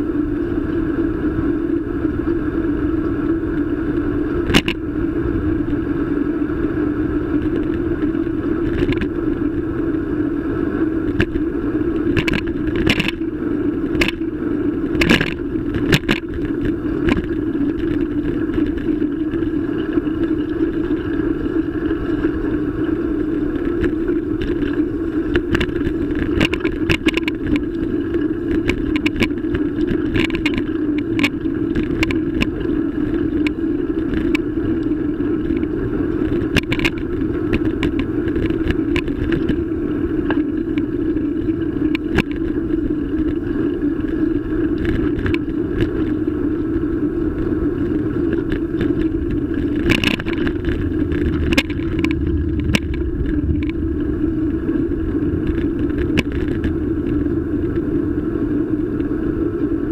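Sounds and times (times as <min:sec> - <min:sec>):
road vibration hum and rumble: 0:00.0 - 0:59.9.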